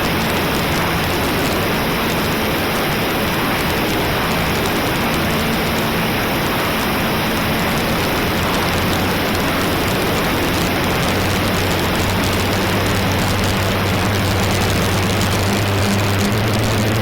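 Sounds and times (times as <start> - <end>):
model plane motor humming: 0.0 - 17.0.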